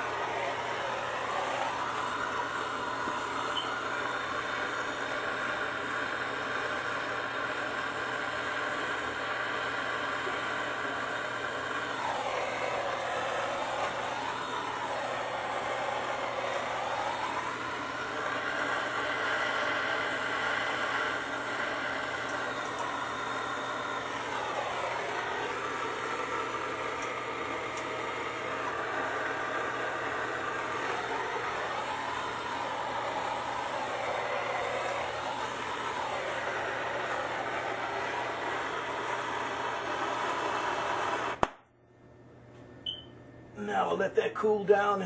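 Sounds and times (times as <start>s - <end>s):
torch flame hissing: 0.0s - 41.6s.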